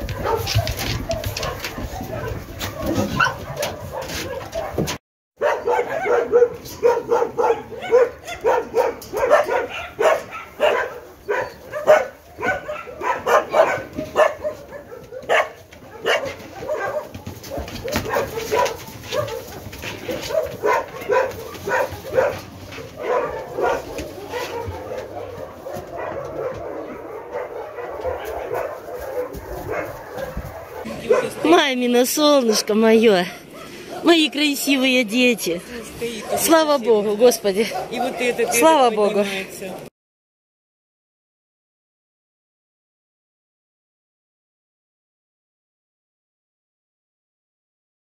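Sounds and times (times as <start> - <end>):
many dogs barking: 0.0 - 39.9.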